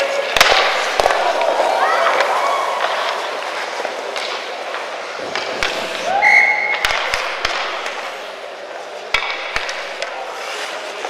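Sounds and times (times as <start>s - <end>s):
hockey sticks and puck clacking: 0.0s - 11.0s
skates scraping ice: 0.0s - 11.0s.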